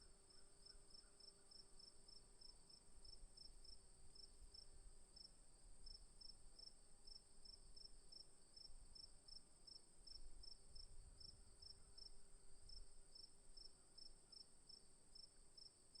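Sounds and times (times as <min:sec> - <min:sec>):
lower-pitched cricket chirping: 0:00.0 - 0:16.0.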